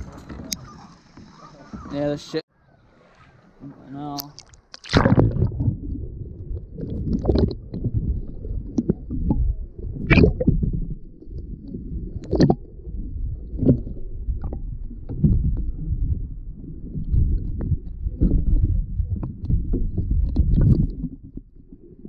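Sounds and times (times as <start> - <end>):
underwater rumble and sloshing: 0.0 - 22.0.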